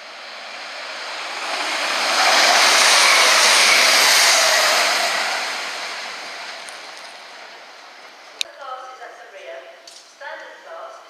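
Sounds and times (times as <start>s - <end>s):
train passing at speed: 0.0s - 9.5s.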